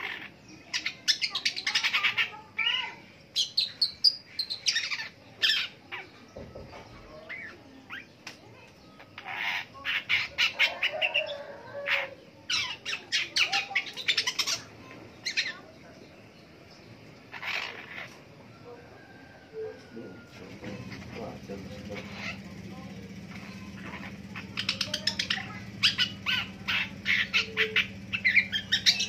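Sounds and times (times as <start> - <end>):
bird singing harsh chattering notes: 0.0 - 18.5, 20.5 - 29.0.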